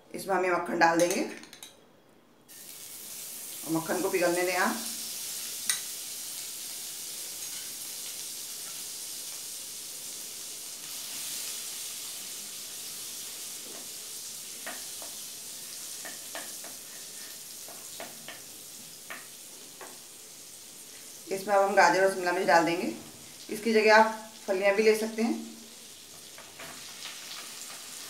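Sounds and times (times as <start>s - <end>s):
butter sizzling in a pan: 2.5s - 28.0s.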